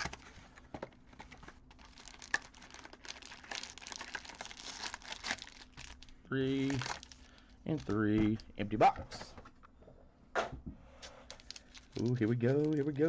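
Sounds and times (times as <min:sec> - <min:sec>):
card packs crinkling: 0:00.0 - 0:08.7, 0:11.2 - 0:13.0.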